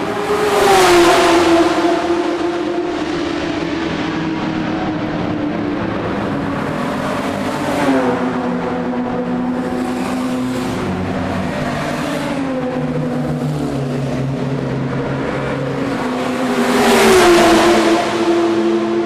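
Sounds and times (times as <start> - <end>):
racing car engines: 0.0 - 19.0
racing car passing by: 0.0 - 19.0.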